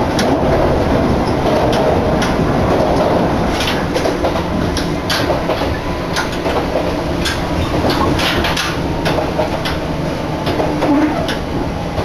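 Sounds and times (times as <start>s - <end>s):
train wheels rumbling: 0.0s - 12.0s
wheels clicking on track: 0.0s - 12.0s
wind buffeting: 0.0s - 12.0s.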